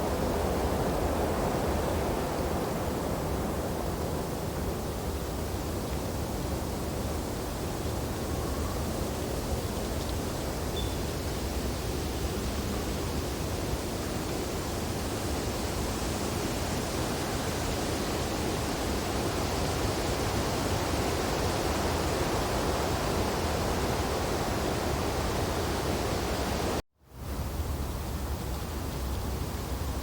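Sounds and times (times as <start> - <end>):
wind through tree branches: 0.0 - 30.0.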